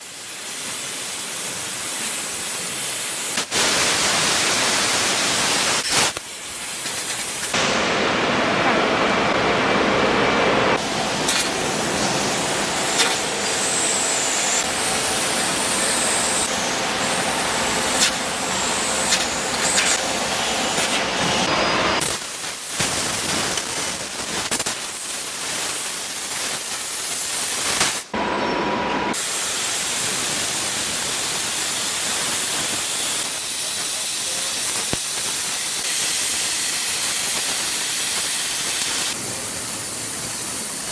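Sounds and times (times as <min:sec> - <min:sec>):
laser cutter gas jet hissing: 0:00.0 - 0:07.9, 0:10.8 - 0:28.1, 0:29.1 - 0:40.9.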